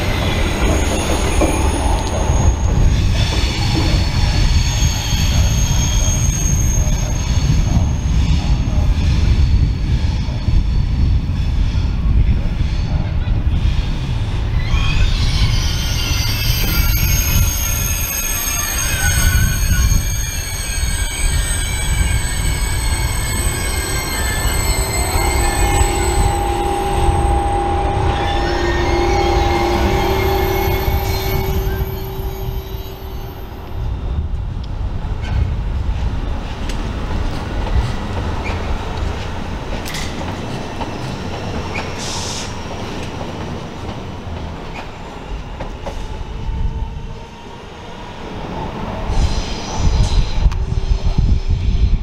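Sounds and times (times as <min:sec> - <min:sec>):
train wheels squealing: 0:00.0 - 0:12.0, 0:12.6 - 0:34.2, 0:37.7 - 0:38.8, 0:39.8 - 0:48.2, 0:49.1 - 0:52.0
train rumble: 0:00.0 - 0:52.0.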